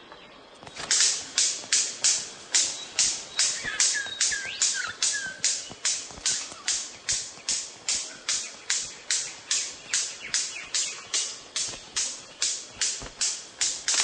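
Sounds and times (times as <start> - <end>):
pulsing insect call: 0.6 - 14.0.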